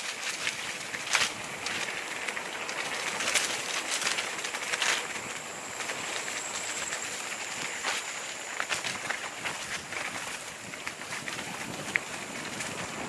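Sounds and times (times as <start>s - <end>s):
bike rattling: 0.0s - 13.0s
bike tyres rolling on dirt: 0.0s - 13.0s.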